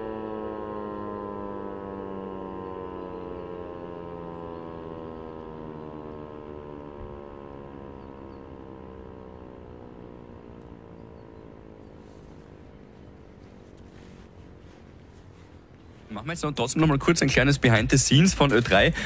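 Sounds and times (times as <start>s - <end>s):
siren running down: 0.0s - 19.0s.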